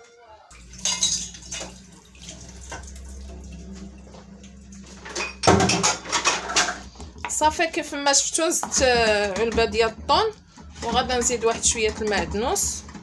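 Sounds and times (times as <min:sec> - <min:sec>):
steady low hum: 0:00.5 - 0:11.2.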